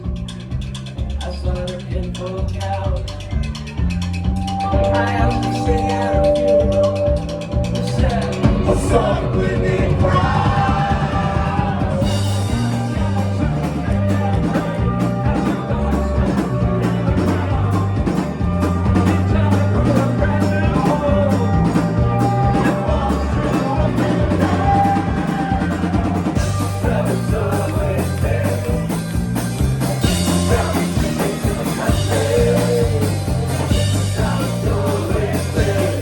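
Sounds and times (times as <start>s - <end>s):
bass line: 0.0s - 36.0s
live rock band playing: 0.0s - 36.0s
steady drum beat: 0.0s - 36.0s.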